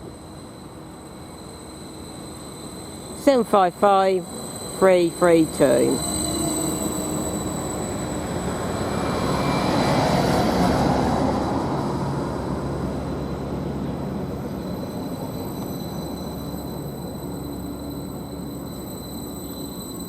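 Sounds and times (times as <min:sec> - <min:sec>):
diesel train engine rumble: 0:00.0 - 0:20.0.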